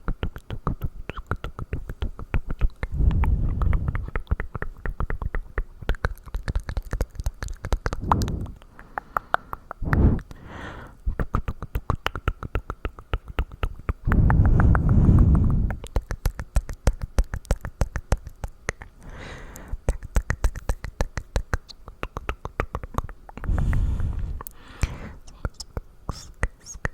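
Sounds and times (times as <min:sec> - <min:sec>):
wet mouth clicks and smacks: 0:00.0 - 0:26.9.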